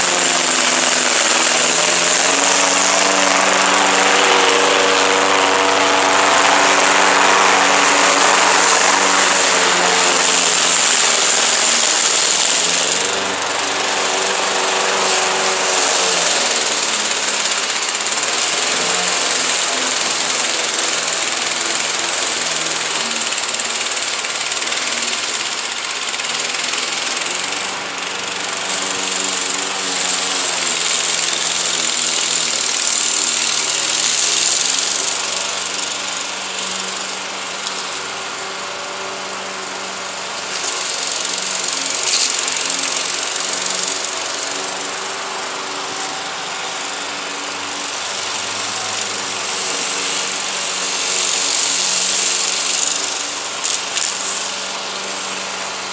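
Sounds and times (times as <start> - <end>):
lawn mower engine cutting grass: 0.0 - 55.9.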